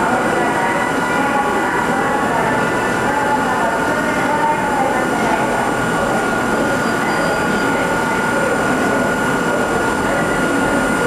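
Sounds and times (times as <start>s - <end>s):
electric railcar humming: 0.0s - 11.0s.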